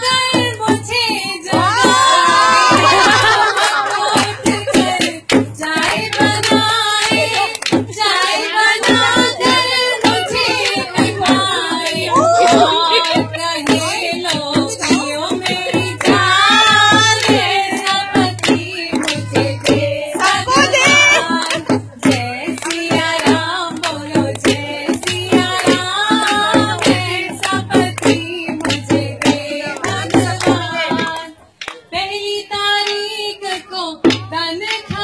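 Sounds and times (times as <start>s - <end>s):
percussive beat: 0.0s - 35.0s
woman singing into a microphone: 0.0s - 35.0s.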